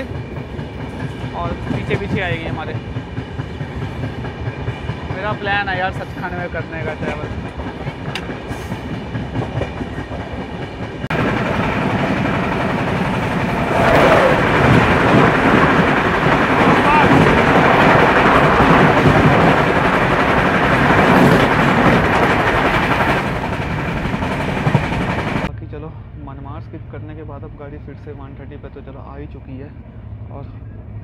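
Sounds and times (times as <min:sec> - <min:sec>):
train wheels rushing on rails: 0:00.0 - 0:25.5.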